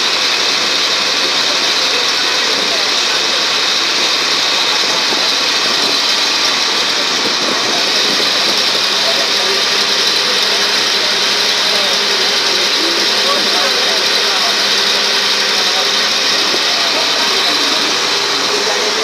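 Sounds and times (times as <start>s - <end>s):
ferry engine running: 0.0s - 19.0s.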